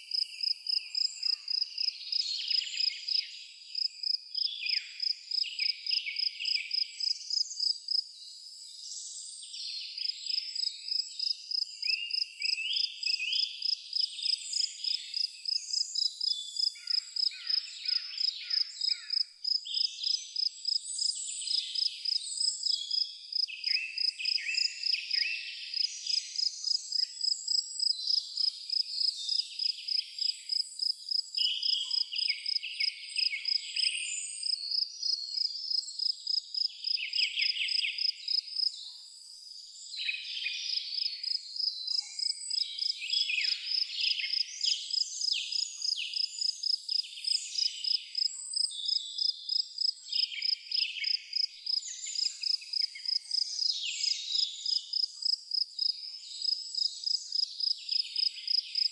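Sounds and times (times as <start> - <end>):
cricket chirping: 0.0 - 8.7, 10.0 - 58.9
birds singing: 0.0 - 58.9.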